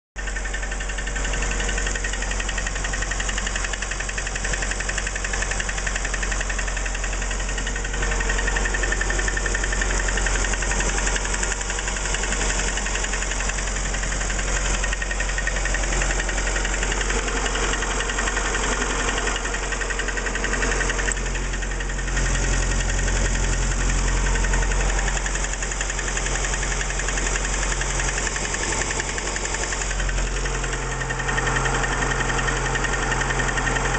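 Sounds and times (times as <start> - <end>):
engine running with rapid knock: 0.2 - 33.9.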